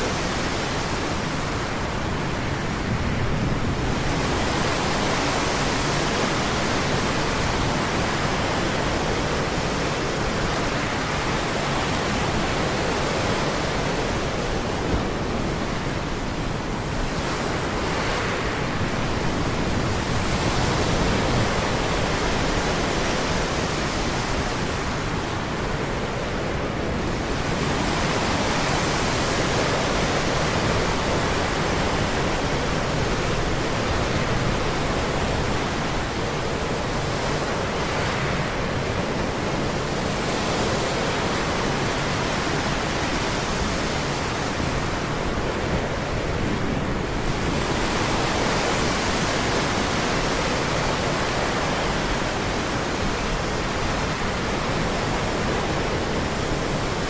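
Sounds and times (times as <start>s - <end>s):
sea surf washing on shore: 0.0s - 57.0s
wind: 0.0s - 57.0s.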